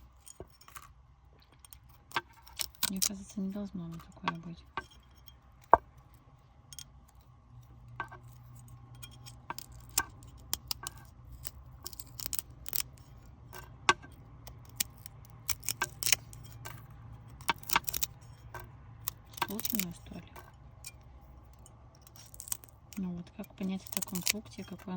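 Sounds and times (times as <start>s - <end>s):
faint low hum: 0.0s - 24.9s
small objects clicking and tapping: 0.0s - 24.9s.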